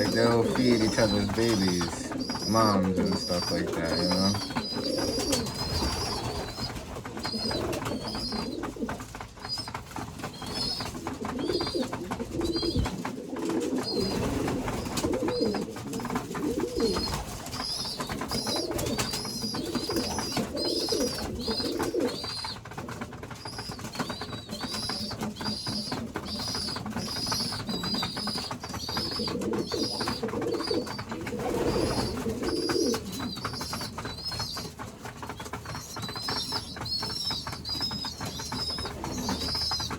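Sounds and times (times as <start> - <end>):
pigeons cooing: 0.0 - 39.9
young pigeons peeping: 0.0 - 39.9.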